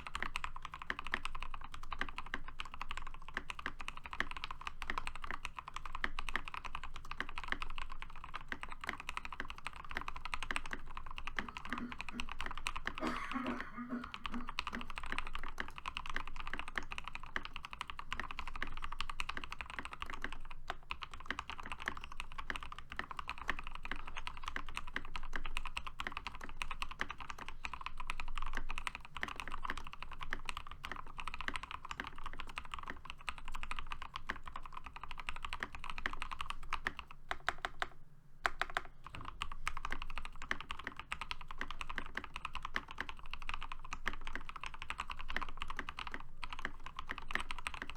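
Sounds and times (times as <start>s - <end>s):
fast mechanical keyboard typing: 0.0s - 47.9s.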